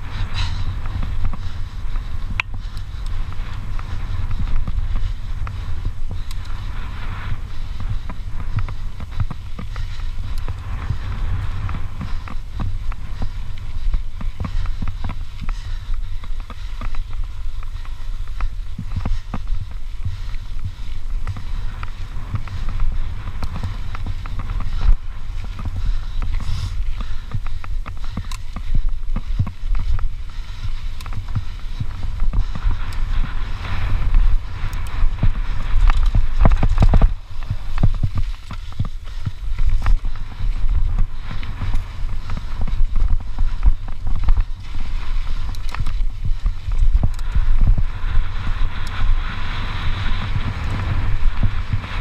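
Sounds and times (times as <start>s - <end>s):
bike rattling on dirt trail: 0.0s - 52.0s
wind buffeting microphone: 0.0s - 52.0s.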